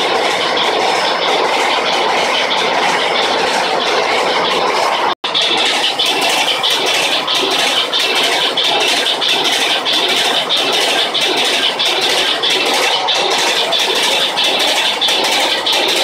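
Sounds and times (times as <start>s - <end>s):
diesel engines running: 0.0s - 16.0s
fast even clatter: 0.0s - 16.0s.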